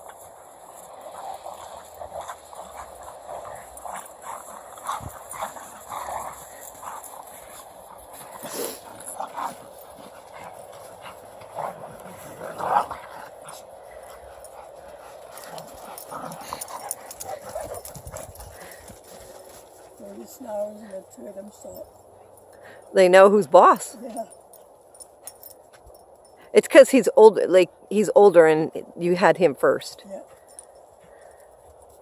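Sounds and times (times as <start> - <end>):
dogs playing rough: 0.0 - 26.5.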